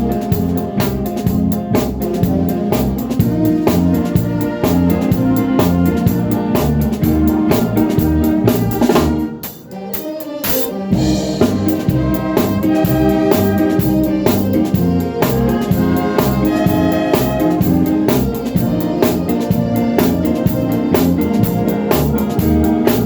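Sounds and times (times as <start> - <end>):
drum kit beat: 0.0 - 23.0
organ keyboard melody: 0.0 - 23.0.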